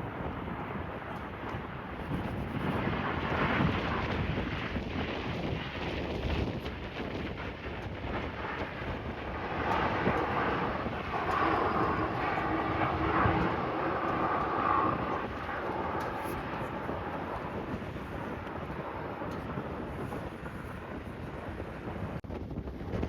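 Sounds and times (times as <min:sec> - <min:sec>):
jet airliner passing: 0:00.0 - 0:22.2
wind buffeting microphone: 0:00.0 - 0:23.0.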